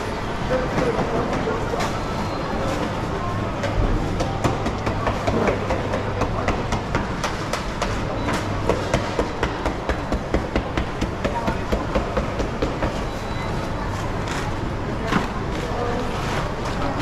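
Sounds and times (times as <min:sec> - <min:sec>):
background chatter: 0:00.0 - 0:17.0.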